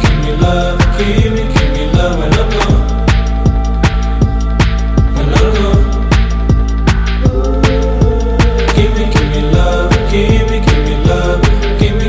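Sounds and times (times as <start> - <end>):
hip-hop background music: 0.0 - 12.0.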